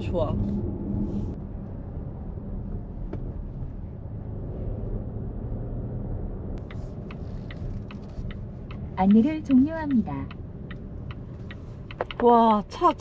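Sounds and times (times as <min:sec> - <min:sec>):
car tyres and engine rumble: 0:00.0 - 0:13.0.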